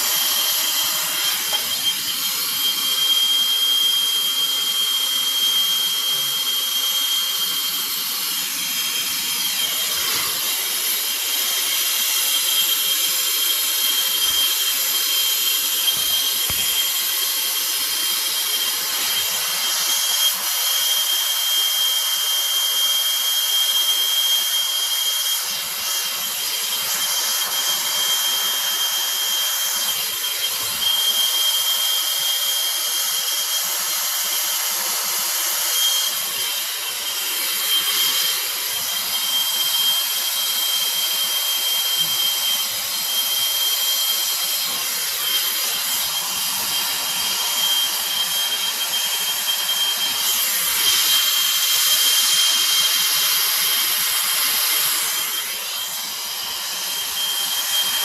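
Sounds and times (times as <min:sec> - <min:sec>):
gas torch hissing and whistling: 0:00.0 - 0:58.0.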